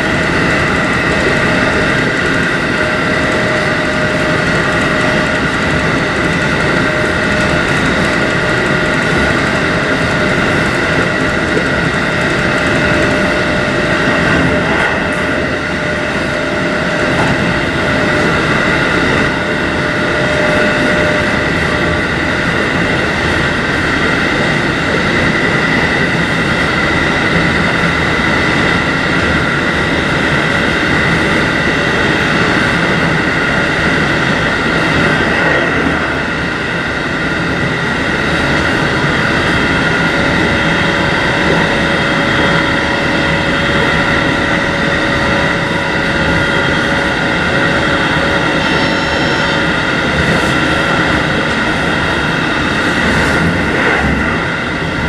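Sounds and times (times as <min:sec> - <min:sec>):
high electric whine: 0:00.0 - 0:55.0
train rail rumble: 0:00.0 - 0:55.0.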